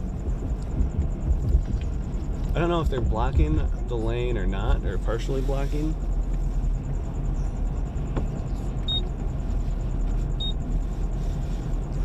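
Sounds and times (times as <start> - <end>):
vehicle engine and tyre rumble: 0.0 - 12.0.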